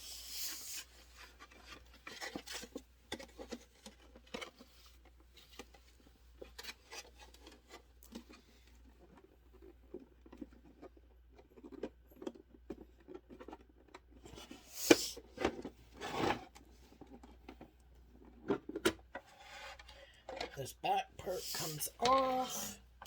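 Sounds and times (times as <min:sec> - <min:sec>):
plastic handling ticks and rubbing: 0:00.9 - 0:22.4.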